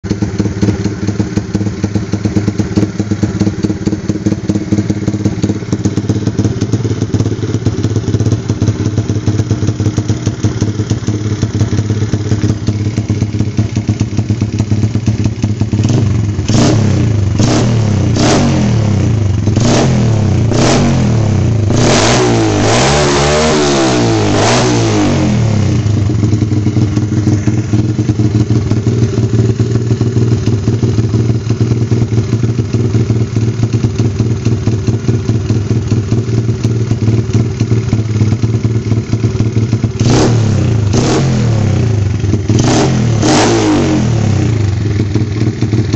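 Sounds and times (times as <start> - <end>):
motorbike engine idling and revving: 0.0 - 45.9.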